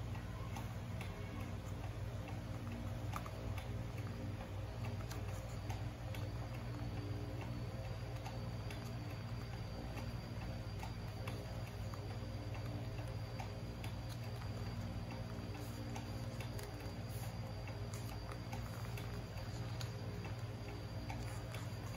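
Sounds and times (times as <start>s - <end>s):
faint ticks: 0.0s - 21.9s
steady low hum: 0.0s - 21.9s
thin high whine: 0.0s - 21.9s.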